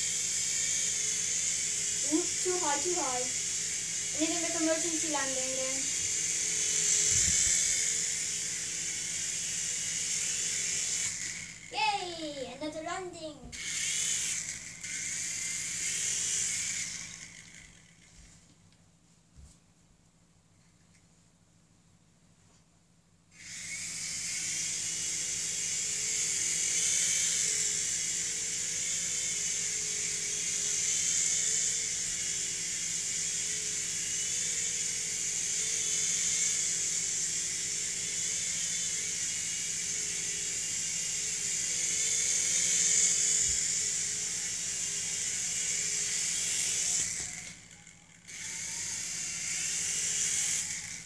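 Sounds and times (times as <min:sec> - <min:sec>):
rc helicopter rotor whirring: 0:00.0 - 0:18.5, 0:23.3 - 0:51.0.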